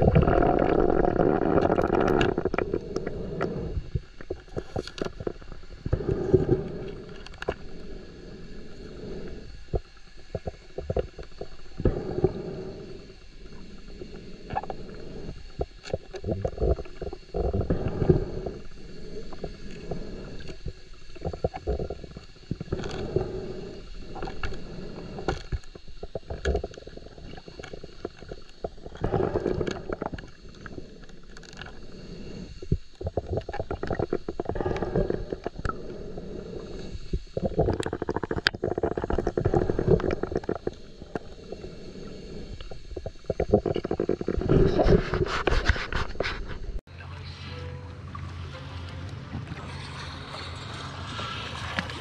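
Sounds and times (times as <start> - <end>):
small clicks underwater: 0.0 - 8.0, 9.5 - 31.9, 32.5 - 36.0, 36.6 - 41.6, 42.5 - 46.8
muffled underwater rumbling: 0.0 - 47.0.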